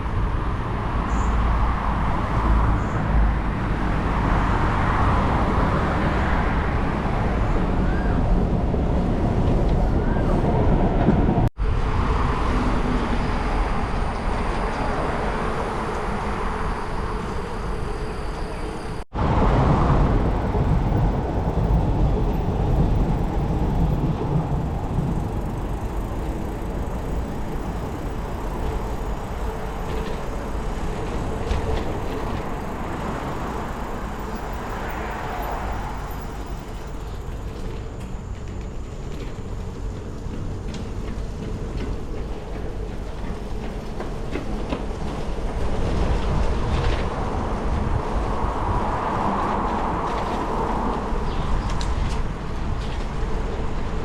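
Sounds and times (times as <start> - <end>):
bicycle road noise: 0.0 - 54.0
wind rumble: 0.0 - 54.0.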